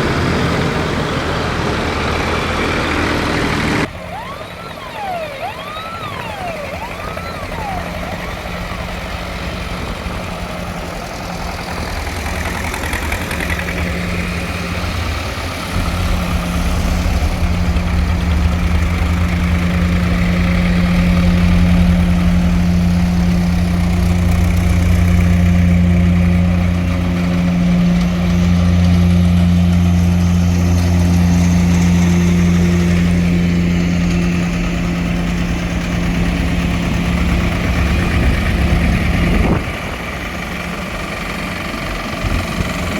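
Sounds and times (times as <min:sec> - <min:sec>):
tractor engine idling: 0:00.0 - 0:42.9.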